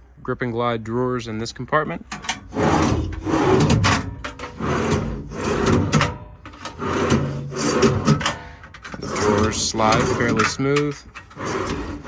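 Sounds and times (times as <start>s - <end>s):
metal drawers sliding on runners: 2.0s - 12.0s.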